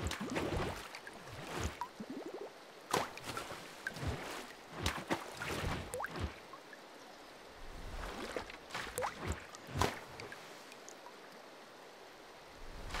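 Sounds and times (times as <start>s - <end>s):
water bubbling and gurgling: 0.0s - 6.9s, 7.5s - 11.4s.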